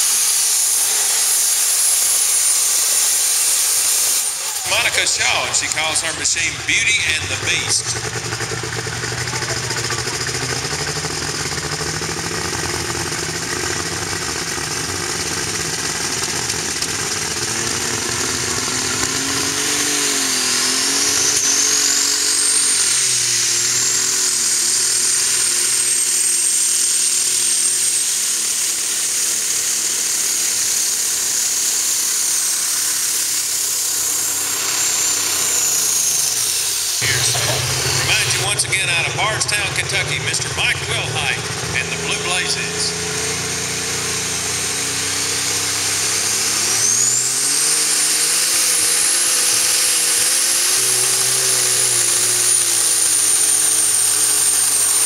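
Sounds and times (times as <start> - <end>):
high turbo whine: 0.0 - 55.0
tractor engine running hard: 0.0 - 55.0.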